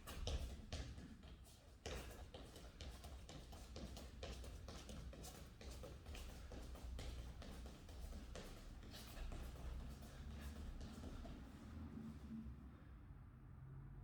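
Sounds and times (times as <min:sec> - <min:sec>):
faint taps and shuffles: 0:00.0 - 0:12.3.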